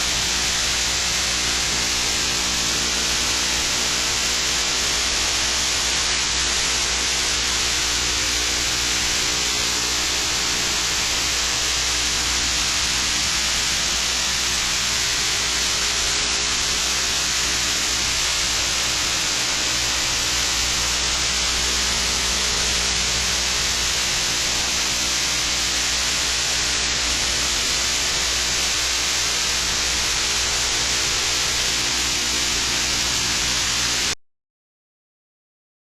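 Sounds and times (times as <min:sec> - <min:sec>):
low electrical hum: 0:00.0 - 0:34.2
steady loud hiss: 0:00.0 - 0:34.2.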